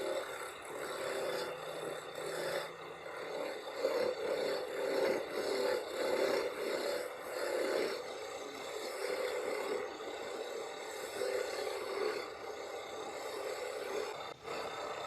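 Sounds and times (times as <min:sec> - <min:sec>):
power tool whirring: 0:00.0 - 0:15.0
tool scraping metal: 0:00.0 - 0:15.0.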